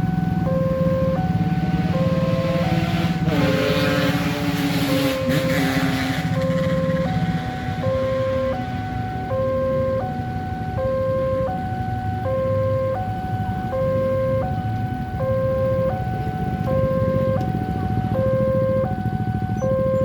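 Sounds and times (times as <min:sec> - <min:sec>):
two-tone level crossing alarm: 0:00.0 - 0:20.0.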